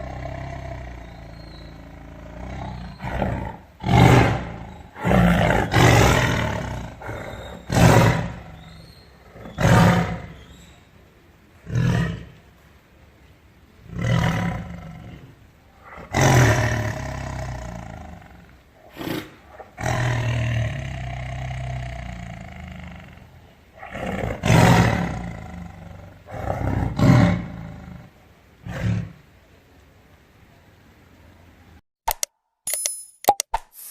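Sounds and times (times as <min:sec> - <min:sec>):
tiger roaring: 0:00.0 - 0:10.8, 0:11.6 - 0:12.5, 0:13.8 - 0:29.4.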